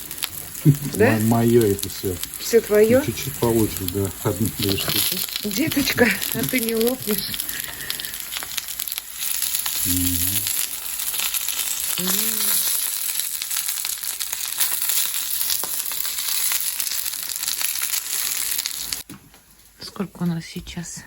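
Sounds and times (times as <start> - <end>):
dumplings sizzling in oil: 0.0 - 19.7.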